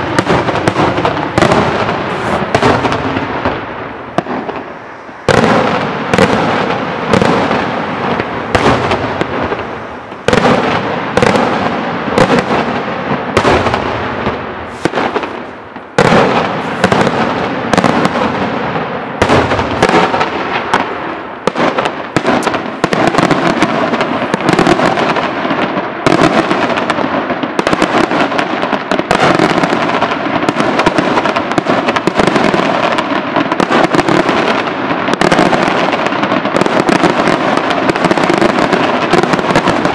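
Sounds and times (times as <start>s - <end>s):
fireworks bursting in sharp bangs: 0.0s - 39.9s.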